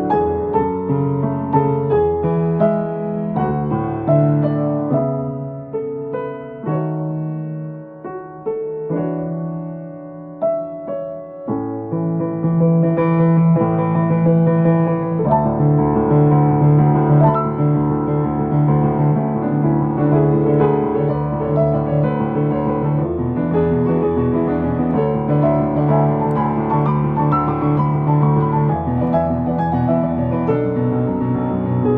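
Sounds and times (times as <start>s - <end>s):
piano music on keyboard: 0.0s - 31.9s.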